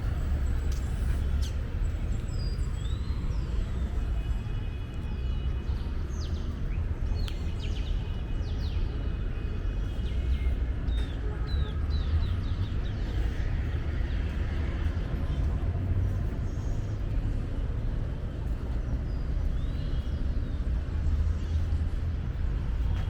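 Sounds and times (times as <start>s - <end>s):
low rumble of street traffic: 0.0s - 23.0s.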